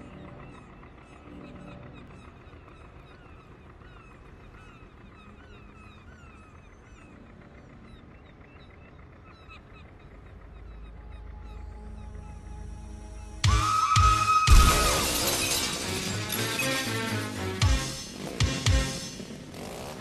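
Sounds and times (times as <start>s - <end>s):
gulls calling: 0.0s - 20.0s
low harbour rumble: 0.0s - 20.0s.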